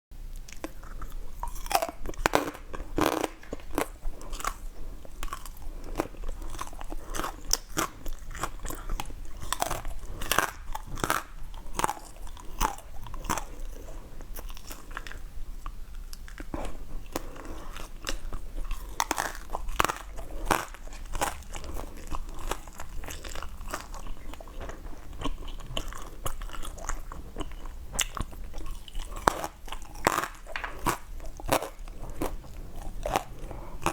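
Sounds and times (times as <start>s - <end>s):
person chewing crunchy food: 0.3s - 33.9s.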